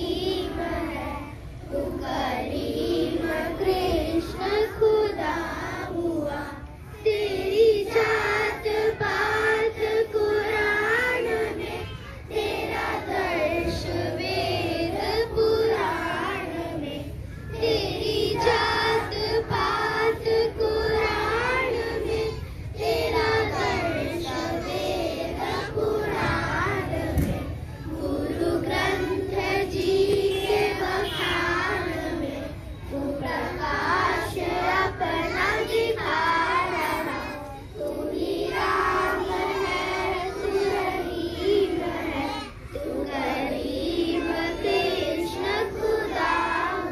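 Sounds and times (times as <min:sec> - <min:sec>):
children singing in unison: 0:00.0 - 0:46.9.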